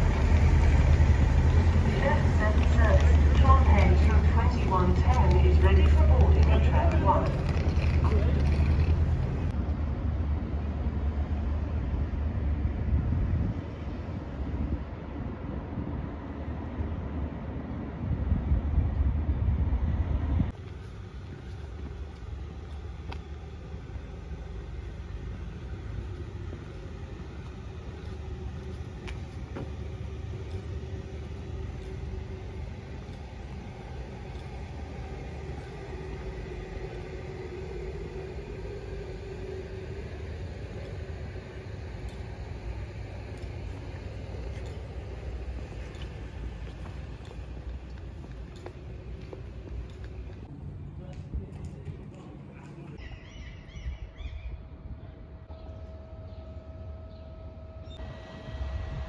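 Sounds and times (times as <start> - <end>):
faint hum: 0.0 - 59.0
road vehicle rumble: 0.0 - 59.0.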